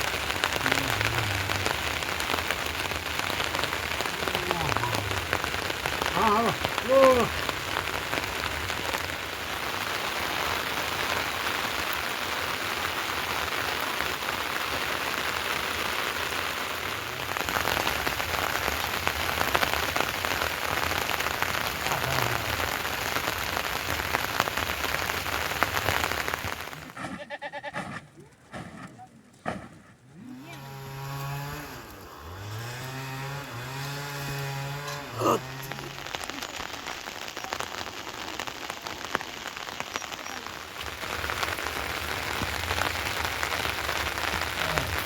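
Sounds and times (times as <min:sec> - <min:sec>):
heavy rain: 0:00.0 - 0:27.0, 0:30.4 - 0:45.0.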